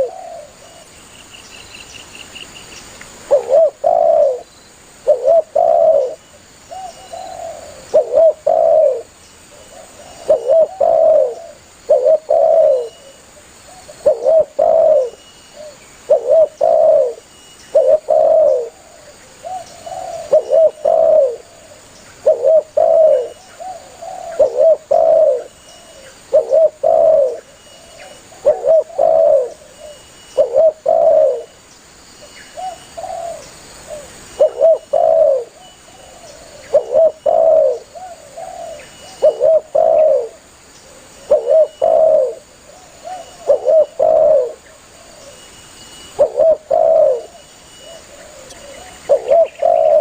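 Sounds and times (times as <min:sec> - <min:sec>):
dove cooing: 0:00.0 - 0:00.9, 0:03.2 - 0:31.5, 0:32.5 - 0:50.0.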